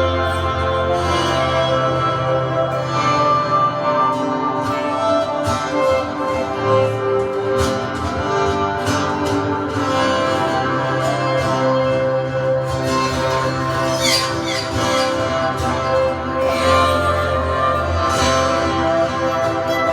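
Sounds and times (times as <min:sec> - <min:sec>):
instrumental worship music: 0:00.0 - 0:19.9.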